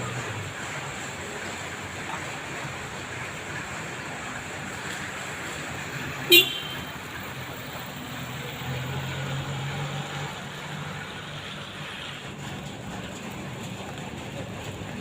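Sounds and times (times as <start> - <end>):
traffic noise: 0.0 - 15.0
vehicle engine hum: 0.0 - 15.0.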